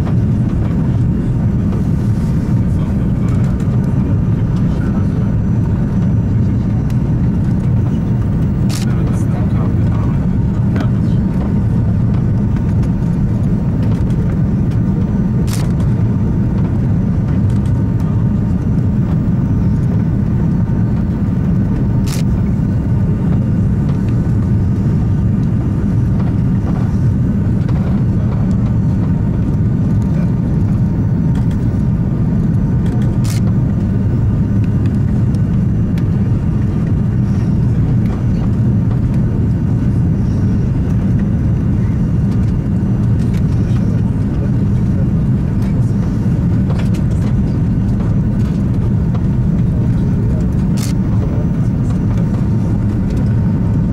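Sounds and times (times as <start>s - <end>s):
airplane engine rumble: 0.0s - 53.9s.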